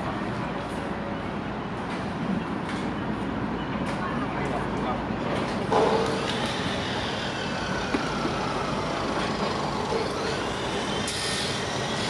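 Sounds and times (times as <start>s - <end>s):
locomotive mechanical drone: 0.0s - 12.0s.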